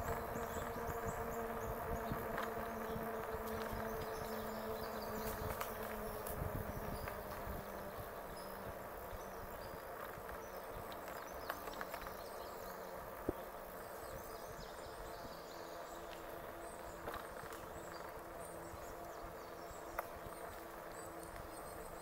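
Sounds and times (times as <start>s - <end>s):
e-bike rolling on a trail: 0.0s - 22.0s.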